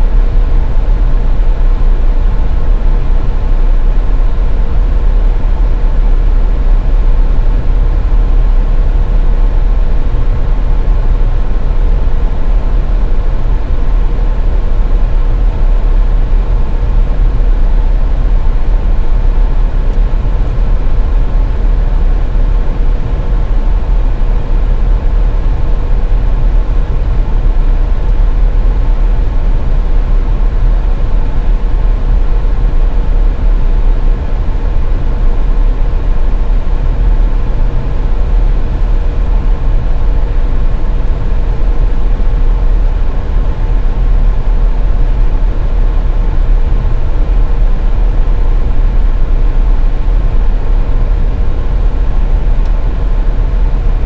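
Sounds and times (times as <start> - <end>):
car road and engine rumble: 0.0 - 54.0
faint steady hum: 0.0 - 54.0.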